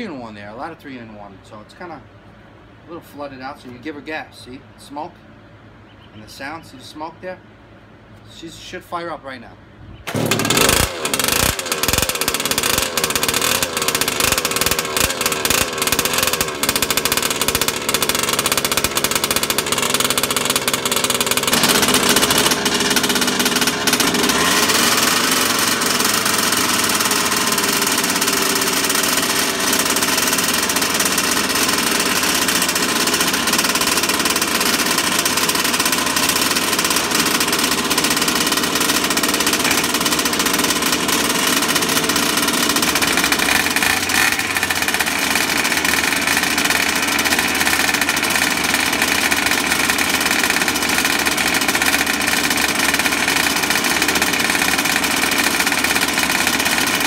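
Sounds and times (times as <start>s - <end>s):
small two-stroke engine running: 10.1s - 57.0s.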